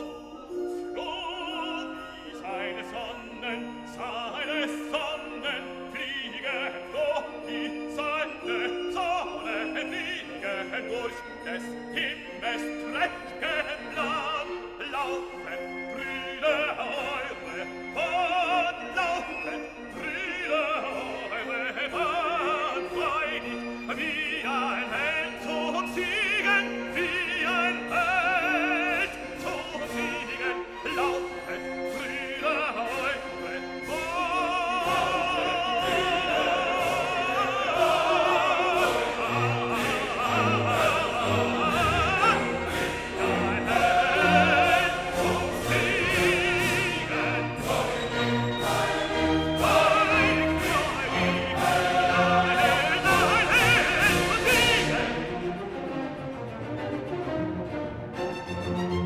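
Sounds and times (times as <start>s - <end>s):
operatic voice singing: 0.0s - 57.7s
orchestra playing: 0.0s - 59.0s.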